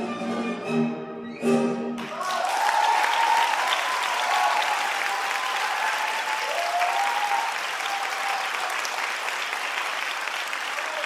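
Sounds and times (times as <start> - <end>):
audience clapping: 2.0 - 11.0.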